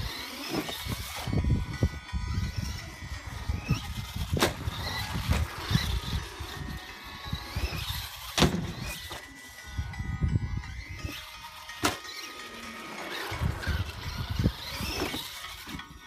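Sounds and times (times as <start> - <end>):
electric motor whining: 0.0 - 16.0
toy truck rumbling over track: 0.0 - 16.0.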